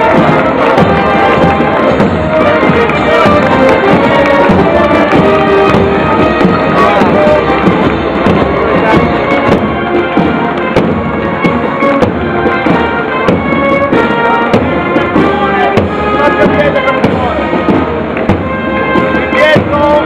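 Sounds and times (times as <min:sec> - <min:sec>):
marching band brass: 0:00.0 - 0:20.0
marching drums beating: 0:00.0 - 0:20.0.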